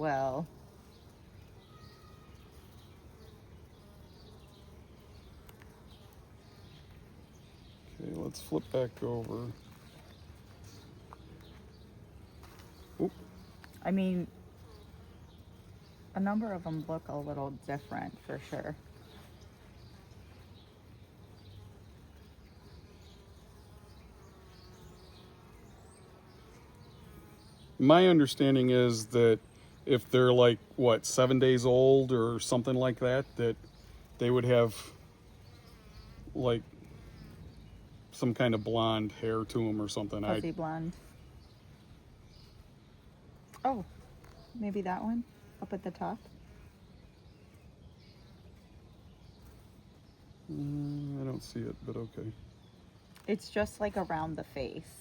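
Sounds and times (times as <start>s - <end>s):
honeybees buzzing faintly: 0.0s - 55.0s.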